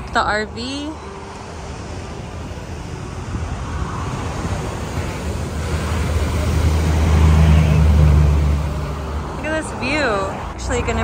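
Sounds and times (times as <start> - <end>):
low vehicle rumble: 0.0 - 11.0
ocean surf breaking: 0.0 - 11.0
wind on microphone: 0.0 - 11.0.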